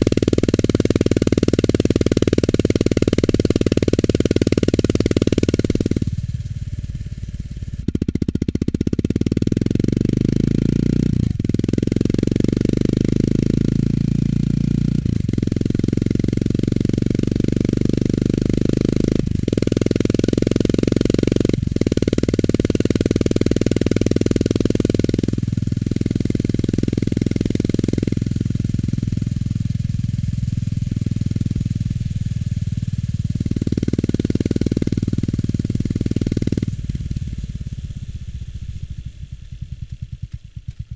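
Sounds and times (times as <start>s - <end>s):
motorcycle exhaust thumping: 0.0s - 40.9s.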